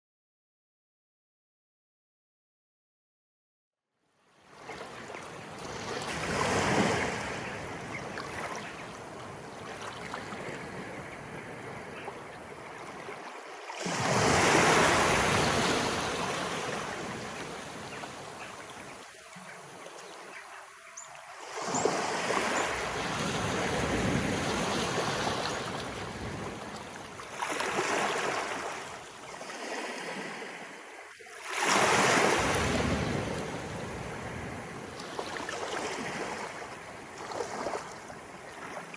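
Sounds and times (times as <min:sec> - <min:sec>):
sea waves washing up: 0:04.6 - 0:38.9.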